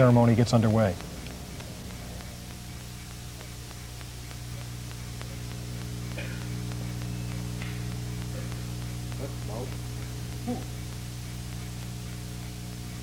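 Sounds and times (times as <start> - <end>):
constant hiss: 0.0 - 13.0
electrical mains hum: 0.0 - 13.0.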